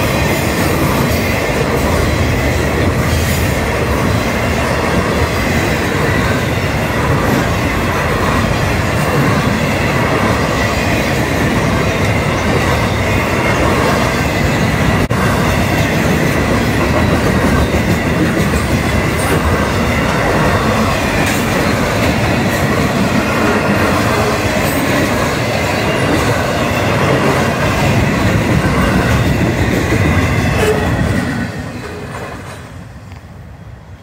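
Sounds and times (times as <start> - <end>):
train cars rumbling and rattling: 0.0 - 34.0.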